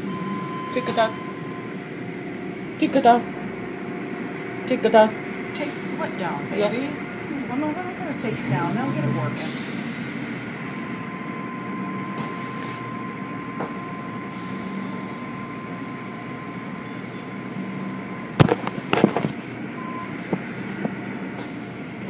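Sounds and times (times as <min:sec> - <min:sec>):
car wash machinery running: 0:00.0 - 0:22.0.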